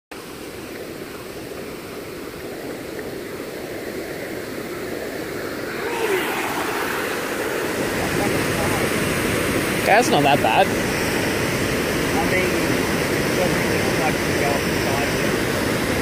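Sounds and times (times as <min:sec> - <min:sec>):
creek water rushing over rapids: 0:00.2 - 0:16.0.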